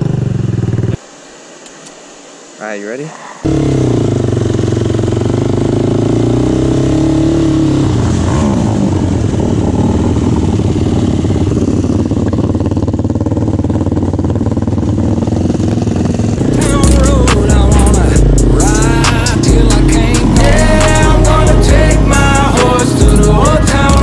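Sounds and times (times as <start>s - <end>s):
quad bike engine running: 0.0s - 1.0s, 3.5s - 24.0s.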